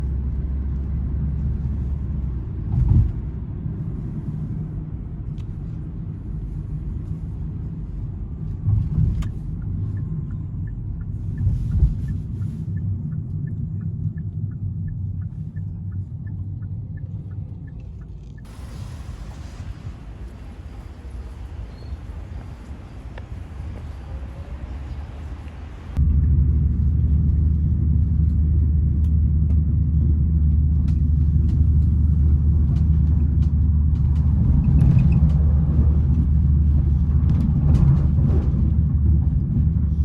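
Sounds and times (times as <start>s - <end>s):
car rumbling in motion: 0.0s - 40.0s.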